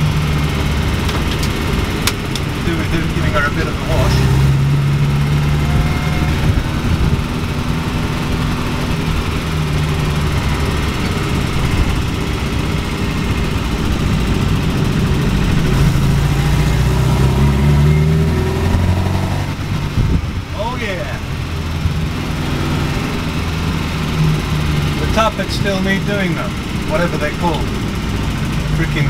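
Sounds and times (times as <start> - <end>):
car engine running: 0.0 - 29.0
road noise: 0.0 - 29.0.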